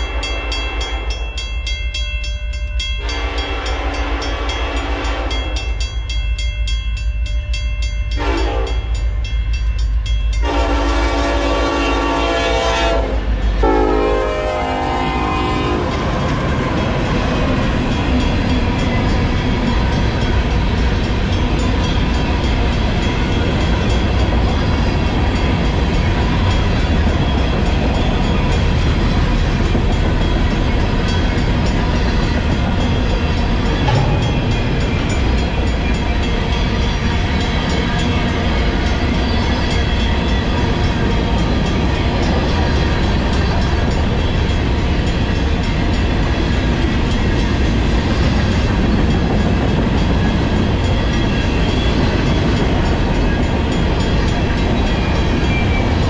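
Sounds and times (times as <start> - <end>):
crossing bell ringing: 0.0 - 56.0
train wheels rumbling on rails: 0.0 - 56.0.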